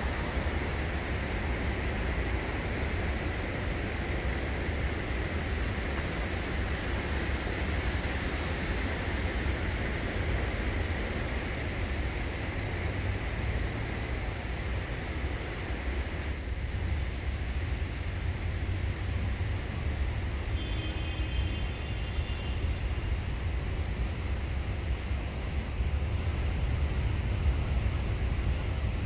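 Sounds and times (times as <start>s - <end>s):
heavy road traffic rumble: 0.0s - 29.0s.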